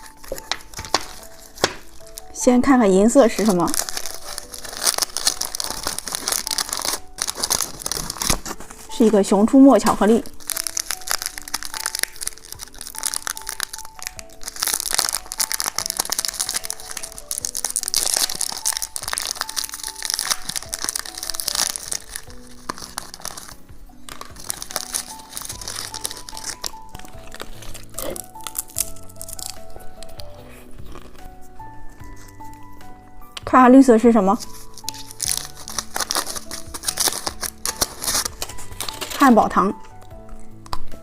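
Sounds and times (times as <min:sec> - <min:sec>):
wrapper crinkling: 0:00.0 - 0:32.8, 0:33.9 - 0:41.0
light background music: 0:00.0 - 0:41.0.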